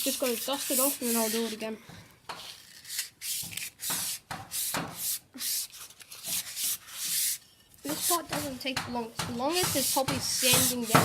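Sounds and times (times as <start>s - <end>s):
sandpaper rubbing on metal: 0.0s - 1.6s, 2.4s - 8.6s, 9.4s - 11.0s.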